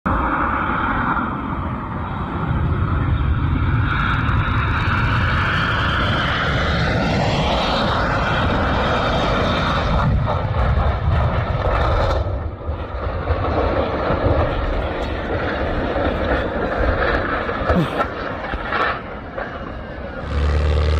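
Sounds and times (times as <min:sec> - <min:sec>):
airplane engine rumbling: 0:00.1 - 0:20.9.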